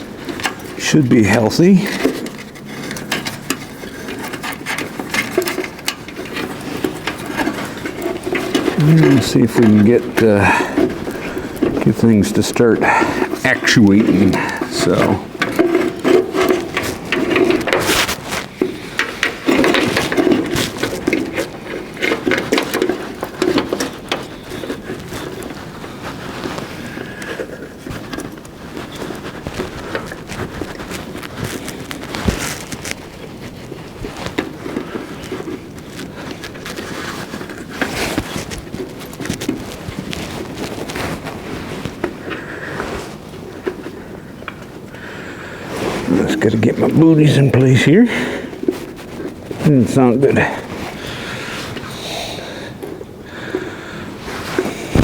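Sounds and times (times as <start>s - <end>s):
wiring harness rustling: 0.0s - 55.0s.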